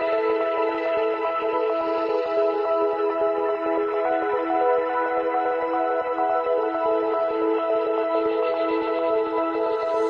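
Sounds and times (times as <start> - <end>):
soft electronic ambient music: 0.0 - 10.0.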